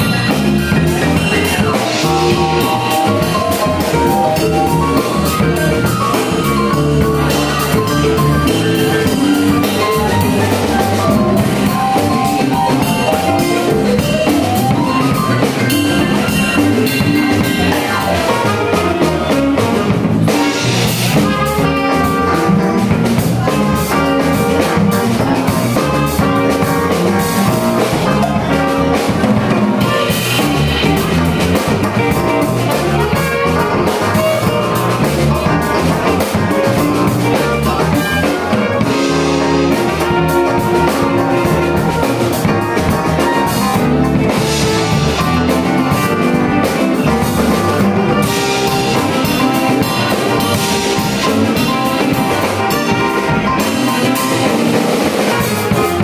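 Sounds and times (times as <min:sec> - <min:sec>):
drum kit groove: 0:00.0 - 0:56.0
live funk band playing: 0:00.0 - 0:56.0.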